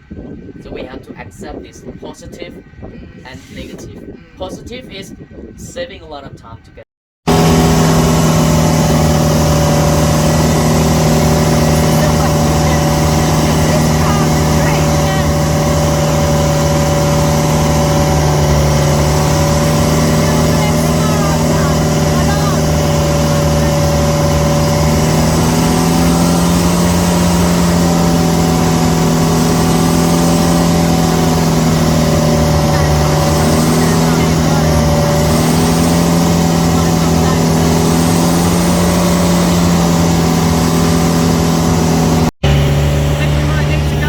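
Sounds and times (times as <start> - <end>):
motorboat engine running: 7.3 - 44.0.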